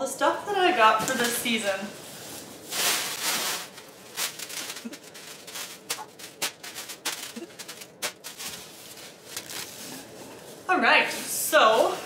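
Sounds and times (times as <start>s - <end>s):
plastic bags crinkling: 0.8s - 10.7s.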